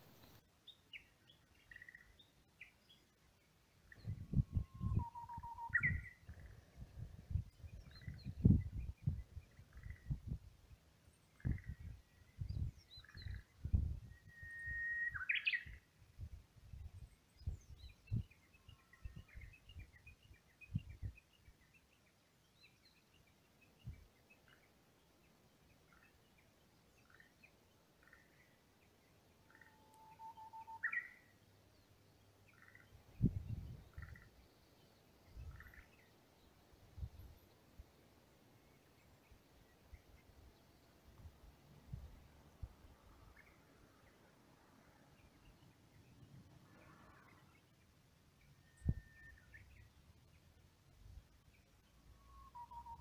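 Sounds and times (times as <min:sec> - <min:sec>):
birds calling and singing: 0:00.1 - 0:03.1, 0:03.8 - 0:10.4, 0:11.2 - 0:15.9, 0:16.7 - 0:37.6, 0:42.0 - 0:50.5, 0:51.5 - 0:53.0.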